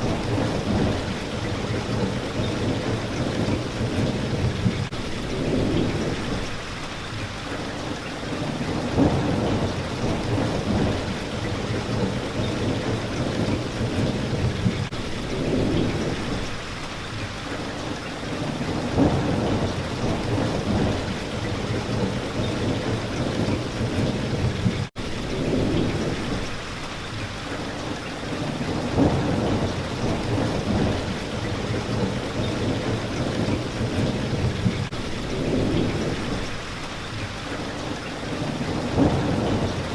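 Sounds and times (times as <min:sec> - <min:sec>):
thunder rumbling: 0:00.0 - 0:07.0, 0:08.2 - 0:16.7, 0:18.2 - 0:27.0, 0:28.2 - 0:37.3, 0:38.2 - 0:39.9
rain hitting a window: 0:00.0 - 0:39.9.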